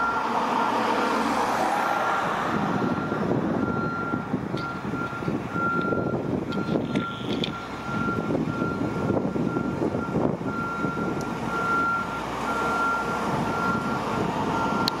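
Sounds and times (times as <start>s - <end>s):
reversing alarm beeping: 0.0s - 1.2s, 2.7s - 15.0s
diesel engine running: 0.0s - 15.0s
passing traffic: 0.0s - 15.0s.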